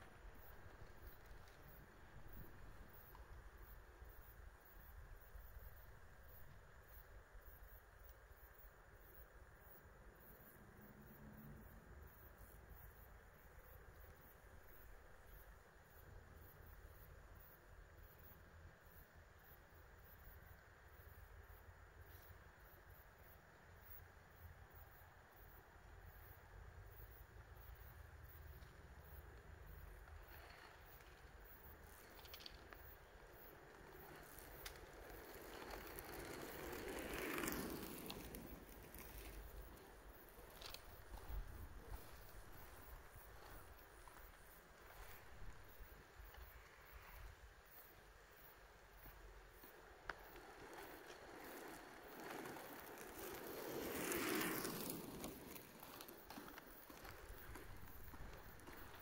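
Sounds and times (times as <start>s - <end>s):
light clicks from skates: 0.0s - 59.0s
skate wheels rolling on asphalt: 0.0s - 59.0s.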